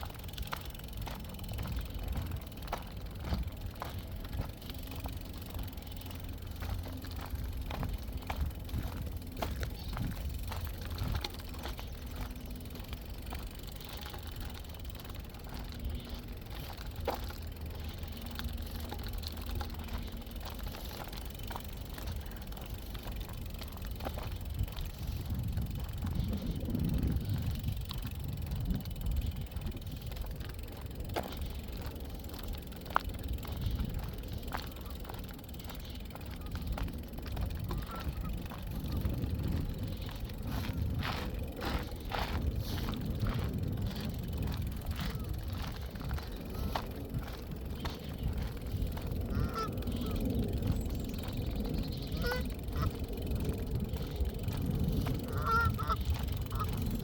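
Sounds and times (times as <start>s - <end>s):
bicycle clicks and rattles: 0.0s - 57.0s
wind and tyre rumble: 0.0s - 57.0s.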